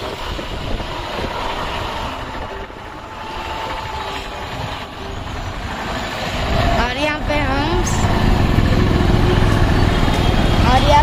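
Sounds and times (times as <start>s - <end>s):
road noise: 0.0s - 11.0s
vehicle engine: 0.0s - 11.0s.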